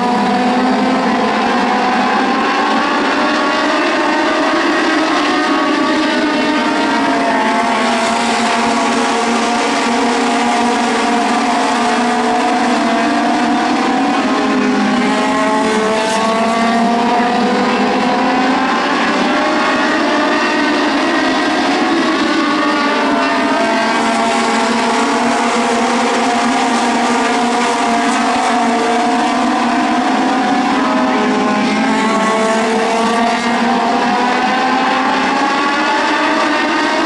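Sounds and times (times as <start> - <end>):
race car engines running hard: 0.0 - 37.0.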